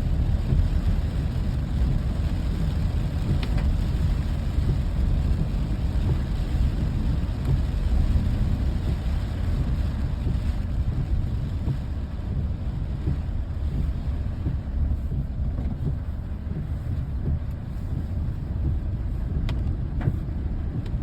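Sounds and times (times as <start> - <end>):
low fluttering rumble: 0.0 - 21.0.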